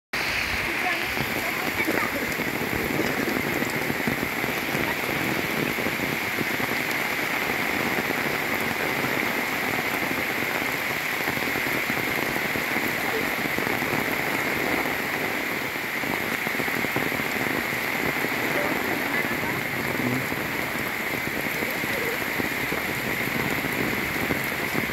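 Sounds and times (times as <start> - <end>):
heavy rain on umbrella: 0.1 - 24.9
rain on foliage: 0.2 - 24.9.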